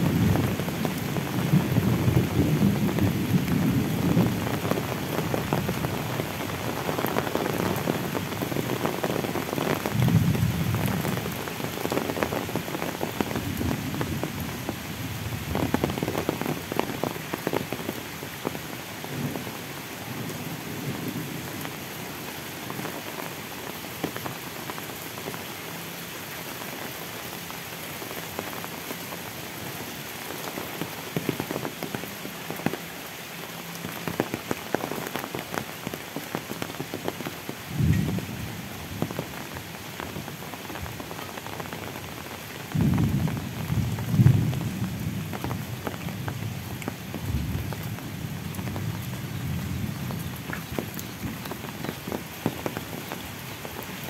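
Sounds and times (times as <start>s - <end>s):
heavy rain on leaves and road: 0.0s - 54.0s.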